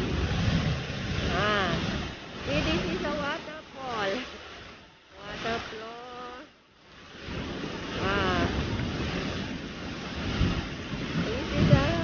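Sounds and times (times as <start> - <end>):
wind noise on microphone: 0.0 - 5.8, 6.4 - 12.0
water cascading down concrete steps: 0.0 - 6.5, 7.5 - 12.0
heavy rain: 0.0 - 12.0.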